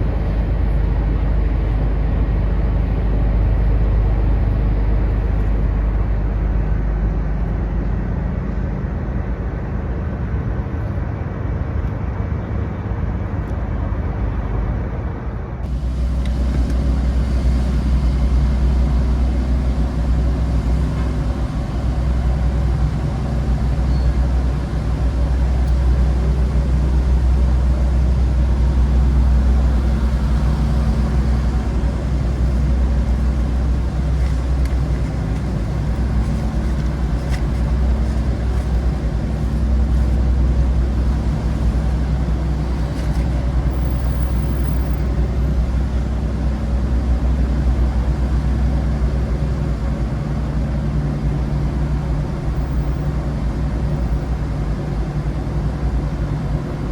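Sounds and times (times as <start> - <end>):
engine droning steadily: 0.0 - 56.9.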